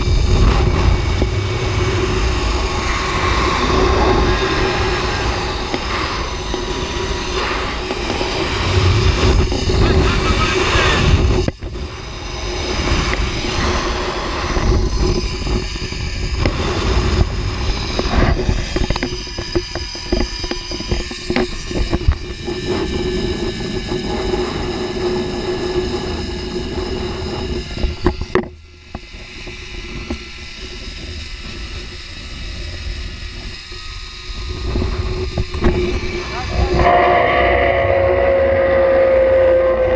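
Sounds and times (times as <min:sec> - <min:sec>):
pulleys humming on cable: 0:00.0 - 0:39.9
wind rushing over microphone: 0:00.0 - 0:39.9.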